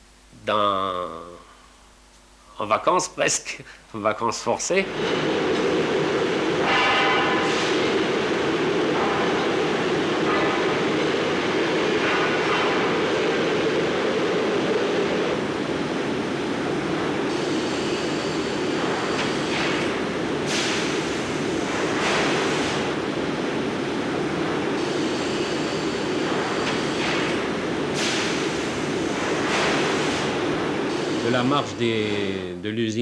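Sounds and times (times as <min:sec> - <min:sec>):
machinery rumble: 0:03.9 - 0:33.0.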